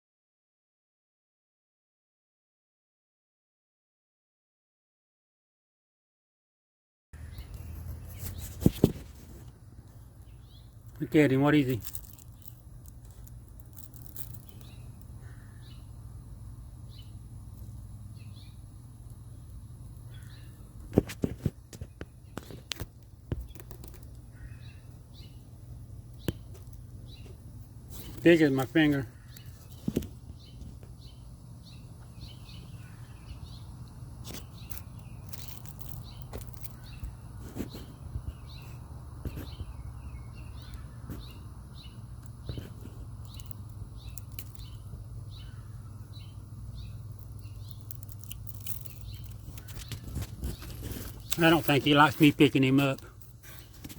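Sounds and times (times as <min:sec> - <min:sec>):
low background hum: 0:07.2 - 0:53.9
small birds chirping: 0:07.2 - 0:53.9.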